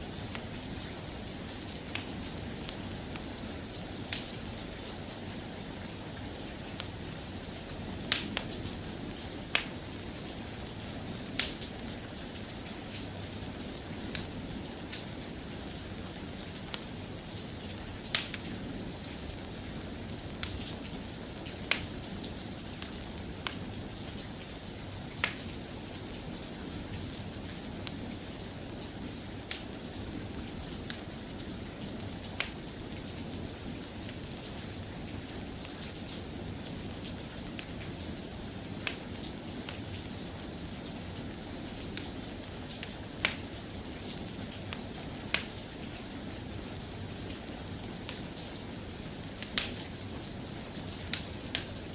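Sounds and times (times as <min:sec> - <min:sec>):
soft steady rain: 0:00.0 - 0:51.9.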